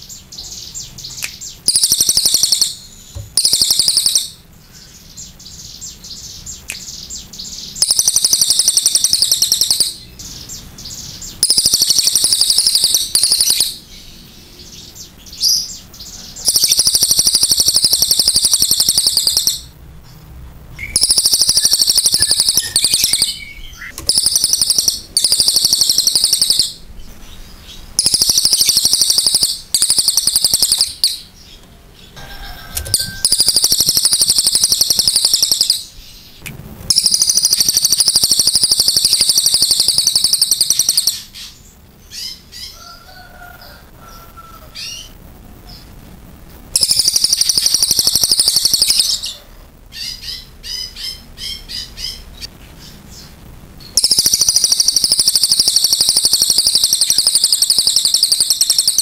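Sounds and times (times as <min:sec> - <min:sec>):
jay singing rapid trills: 0:00.6 - 0:19.8, 0:20.8 - 0:31.4, 0:32.8 - 0:42.8, 0:46.7 - 0:49.3, 0:53.9 - 0:59.0.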